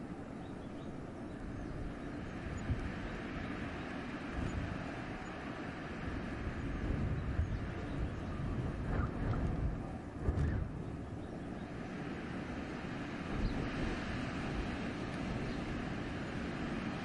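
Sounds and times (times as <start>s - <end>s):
wind rushing through forest: 0.0s - 17.0s.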